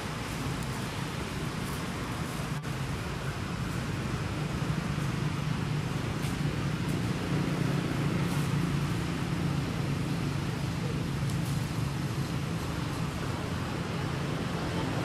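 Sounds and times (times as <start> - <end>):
background hiss: 0.0 - 15.0
low mechanical hum: 0.0 - 15.0.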